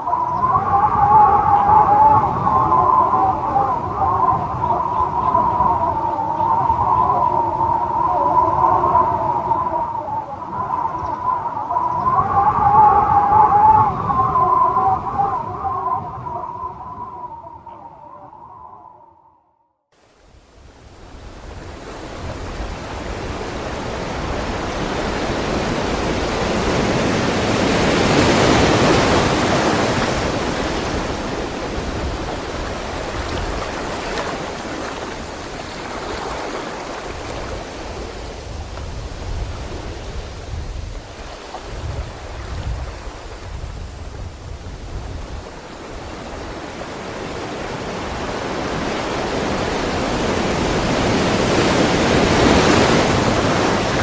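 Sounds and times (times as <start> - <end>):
rushing roar of wind: 0.0 - 18.8, 20.4 - 54.0.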